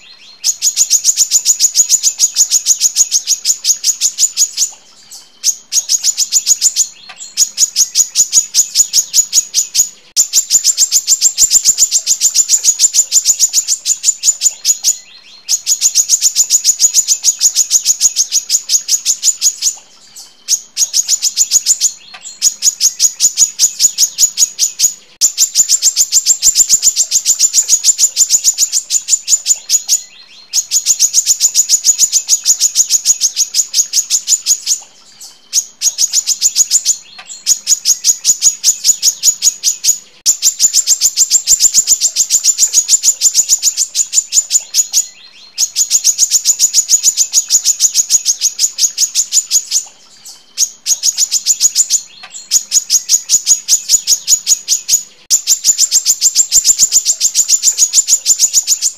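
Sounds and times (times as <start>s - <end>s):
bird singing rapid trills: 0.0s - 58.9s.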